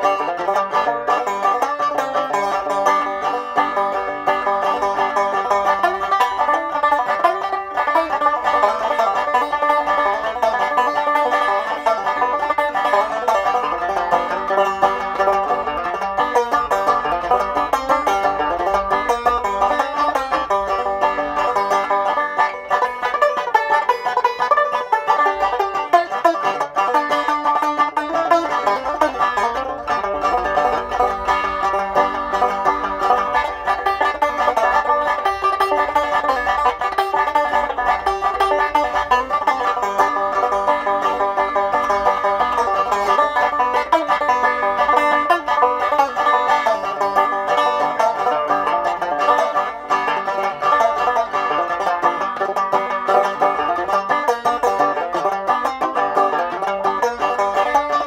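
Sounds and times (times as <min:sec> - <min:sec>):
banjo playing: 0:00.0 - 0:58.0.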